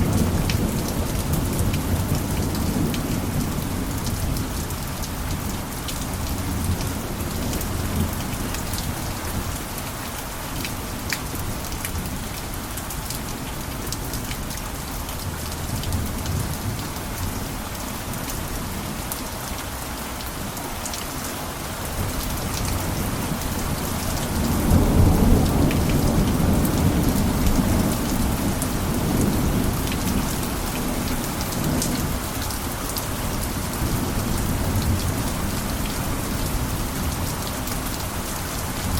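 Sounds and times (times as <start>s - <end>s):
rain on a roof: 0.0s - 38.9s.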